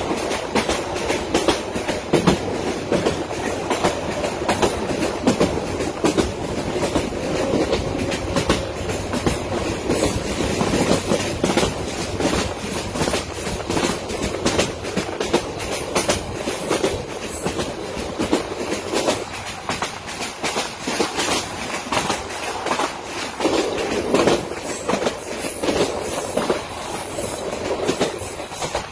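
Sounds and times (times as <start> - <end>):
train wheels clattering over rails: 0.0 - 28.9.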